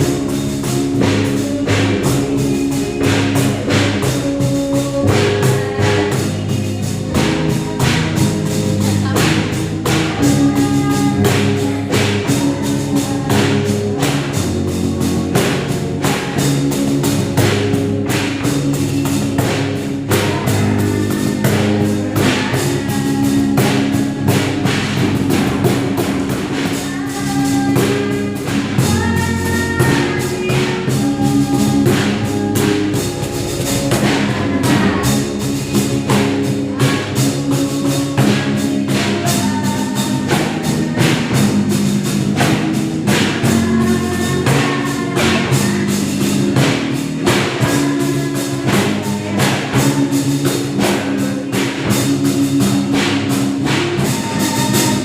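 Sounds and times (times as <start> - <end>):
band playing worship song: 0.0 - 55.0.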